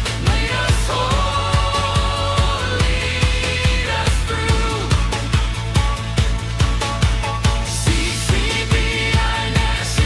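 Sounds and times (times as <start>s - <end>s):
instrumental pop music: 0.0s - 10.0s.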